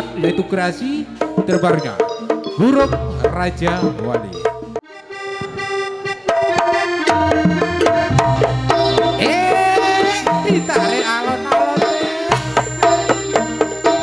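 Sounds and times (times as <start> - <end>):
wavering melody lines: 0.0 - 14.0.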